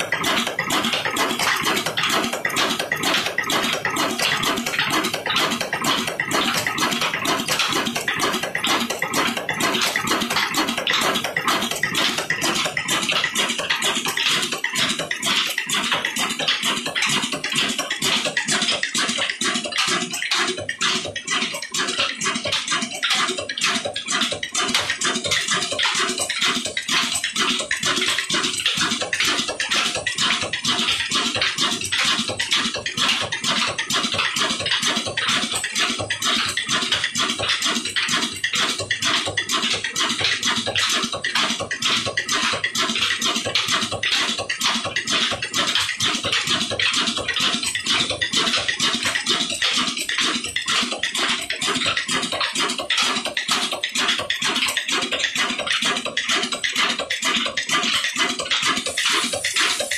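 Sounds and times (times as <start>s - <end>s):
belt and pulley rattle: 0.0s - 59.9s
stationary engine running steadily: 0.0s - 59.9s.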